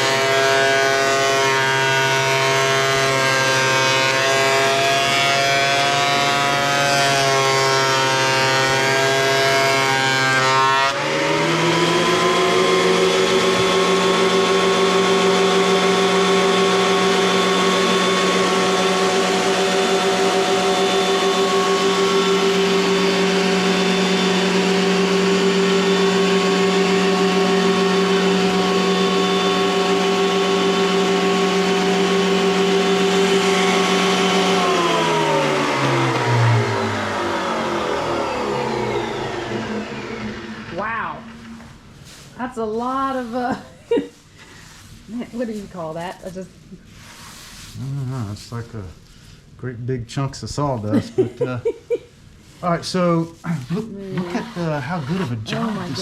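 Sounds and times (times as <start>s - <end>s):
thickness planer running: 0.0s - 42.0s, 52.6s - 56.0s.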